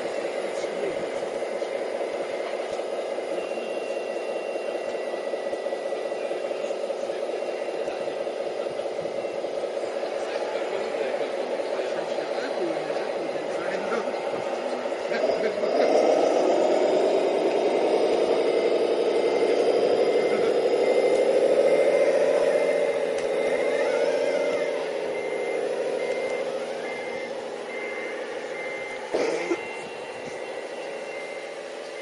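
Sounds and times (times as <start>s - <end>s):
droning engine-like note: 0.0s - 32.0s
reversing beeper beeping: 0.0s - 32.0s.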